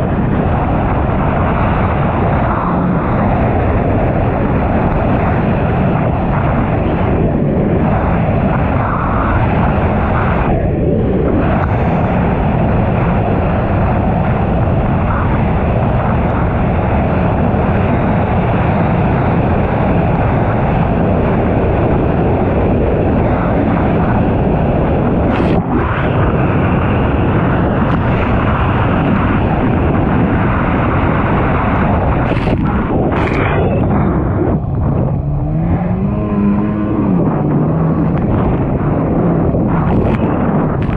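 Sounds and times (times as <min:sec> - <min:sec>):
jet ski engine running hard: 0:00.0 - 0:40.9.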